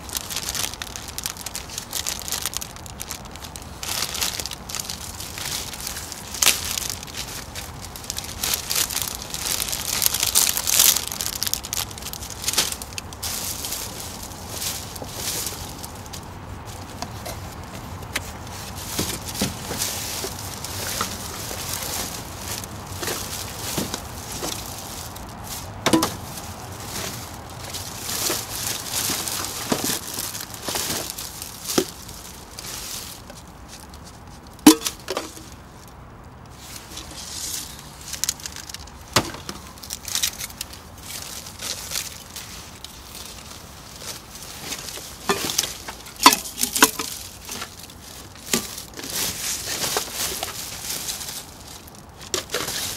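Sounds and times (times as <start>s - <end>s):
plastic wrappers rustling: 0.0s - 52.9s.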